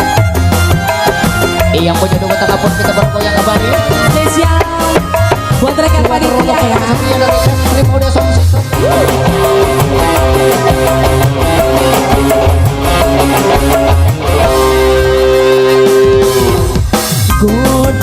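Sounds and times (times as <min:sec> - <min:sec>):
drum beat: 0:00.0 - 0:18.0
guitar: 0:00.0 - 0:18.0.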